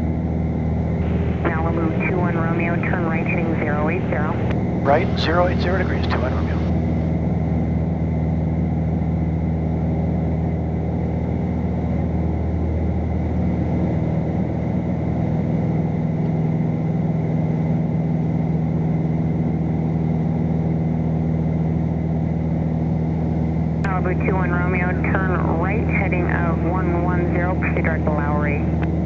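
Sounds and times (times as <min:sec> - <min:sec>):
plane engine and propeller droning: 0:00.0 - 0:29.0.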